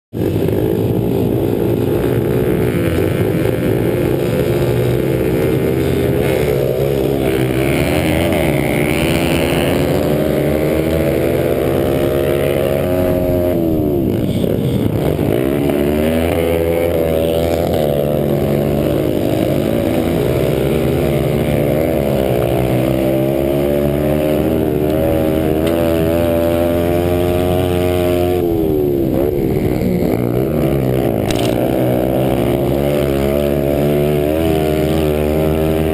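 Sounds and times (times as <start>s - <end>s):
small motorbike engines revving: 0.2s - 35.9s.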